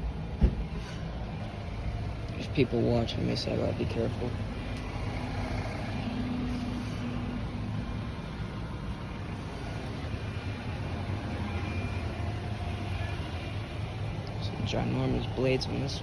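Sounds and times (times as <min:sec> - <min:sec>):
air-conditioning units humming: 0:00.0 - 0:16.0.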